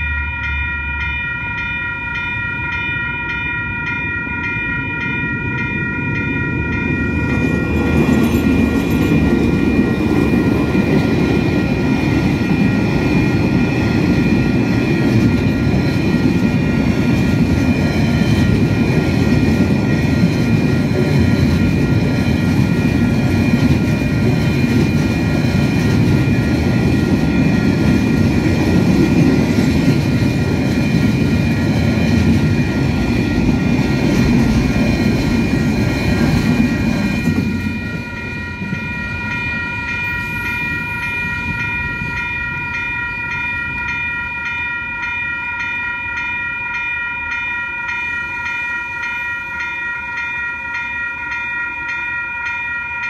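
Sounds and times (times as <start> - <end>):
freight train wheels rumbling: 0.0 - 52.0
level crossing alarm ringing: 0.0 - 53.0.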